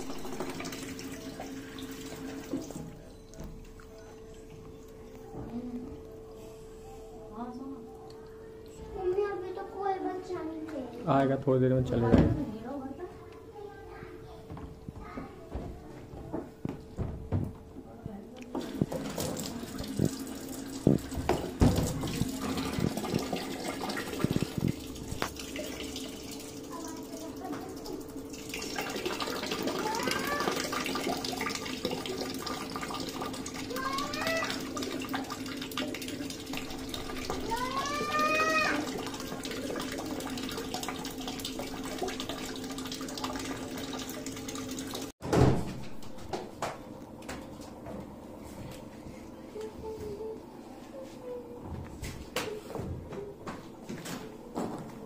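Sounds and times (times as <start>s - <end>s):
water purifier humming: 0.0s - 55.0s.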